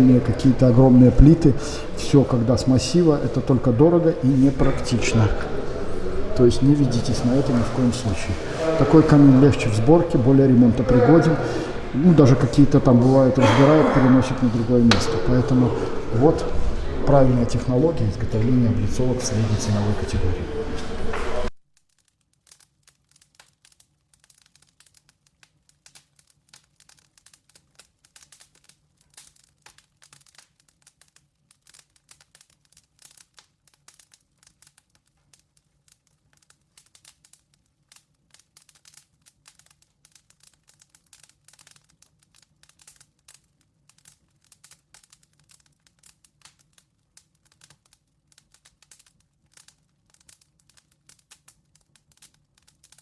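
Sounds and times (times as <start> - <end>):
firewood crackling in fireplace: 0.0 - 53.0.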